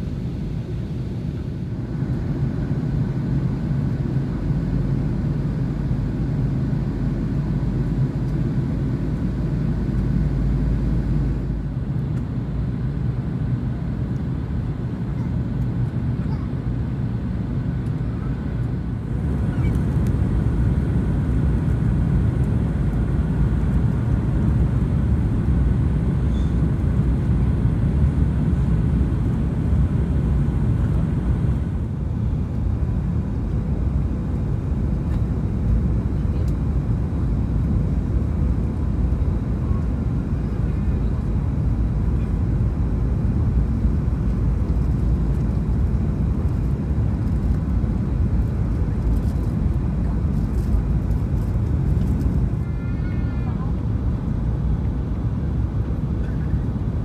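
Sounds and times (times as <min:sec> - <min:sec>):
jet engine rumble: 0:00.0 - 0:57.0.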